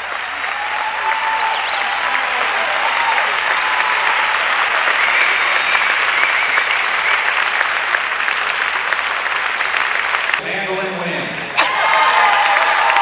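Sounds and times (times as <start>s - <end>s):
spectators applauding: 0.0s - 10.4s, 11.5s - 13.0s.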